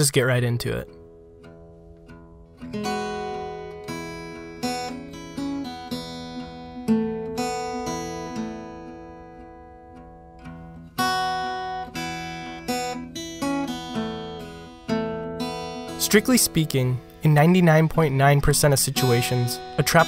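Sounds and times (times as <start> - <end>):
acoustic guitar strummed and plucked: 0.0 - 20.0.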